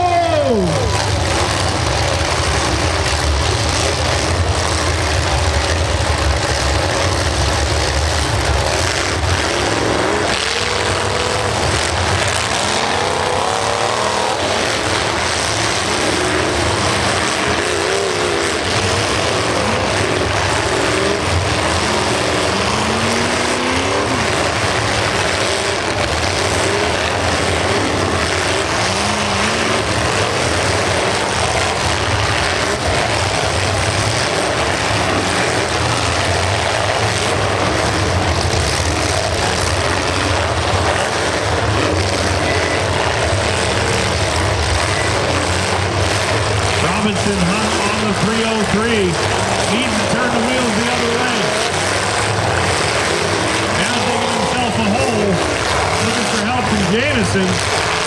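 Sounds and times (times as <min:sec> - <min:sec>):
car engines revving: 0:00.0 - 0:58.0
cars colliding: 0:00.0 - 0:58.0.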